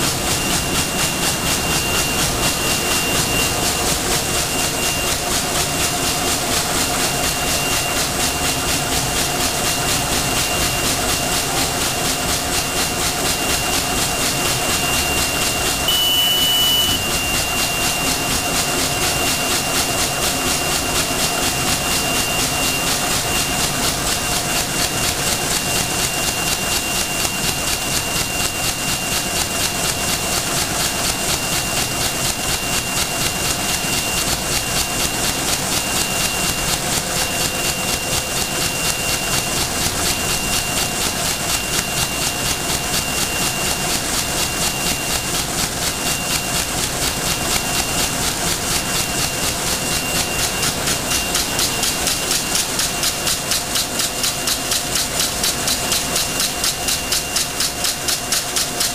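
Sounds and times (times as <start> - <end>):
machine mechanical clatter: 0.0 - 58.9
thin high whine: 0.0 - 58.9.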